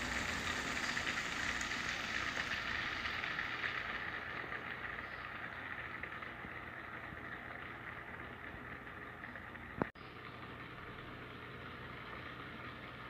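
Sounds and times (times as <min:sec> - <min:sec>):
water trickling in pond: 0:00.0 - 0:13.0.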